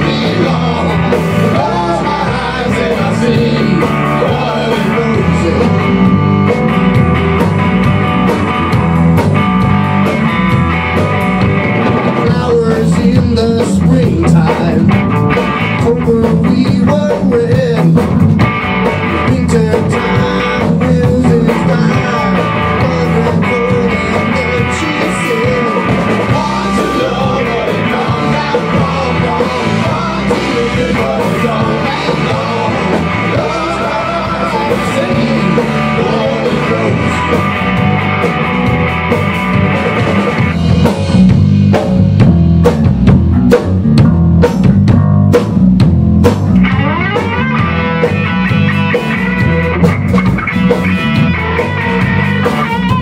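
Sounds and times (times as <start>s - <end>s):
distorted electric guitars: 0.0s - 53.0s
drum kit: 0.0s - 53.0s.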